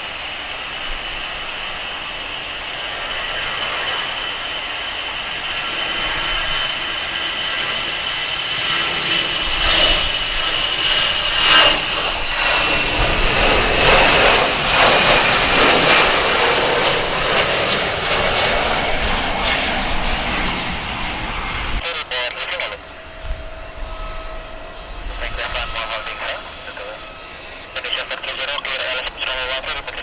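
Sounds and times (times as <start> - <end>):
jet engine whine: 0.0 - 30.0.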